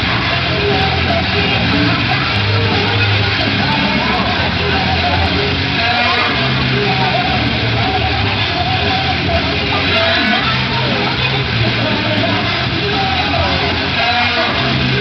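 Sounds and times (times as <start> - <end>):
crowd hubbub: 0.0 - 15.0
music over loudspeakers: 0.0 - 15.0
sustained bass line: 0.0 - 15.0.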